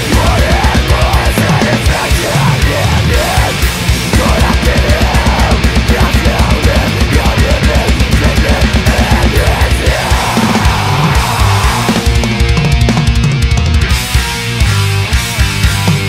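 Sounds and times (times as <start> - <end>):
death metal music: 0.0 - 16.0.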